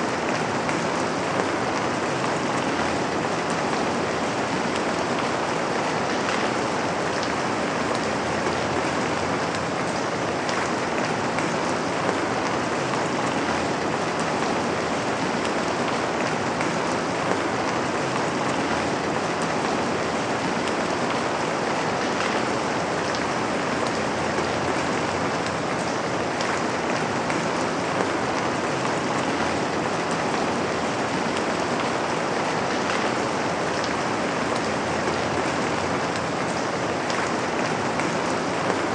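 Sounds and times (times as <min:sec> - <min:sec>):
rain on a window pane: 0:00.0 - 0:38.9.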